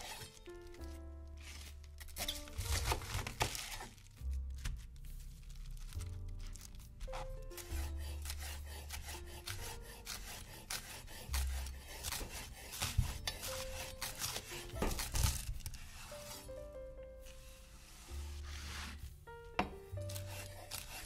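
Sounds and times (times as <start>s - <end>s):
vegetable being shredded: 0.0s - 16.5s, 20.0s - 21.0s
soft background music: 0.0s - 21.0s.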